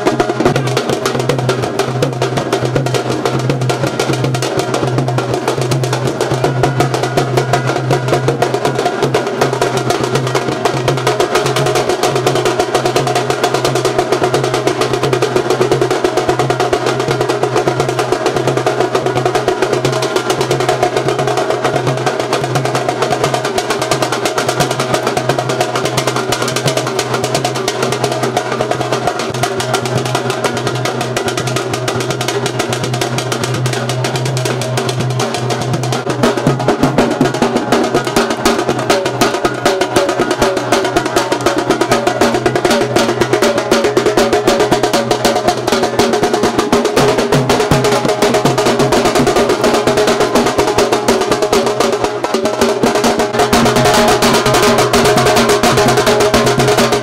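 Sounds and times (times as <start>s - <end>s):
fast drumming: 0.0s - 57.0s.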